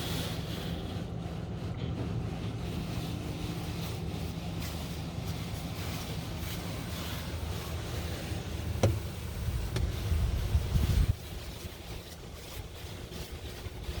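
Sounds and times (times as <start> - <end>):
car wash machine hum: 0.0 - 14.0
heavy rumble: 0.0 - 14.0.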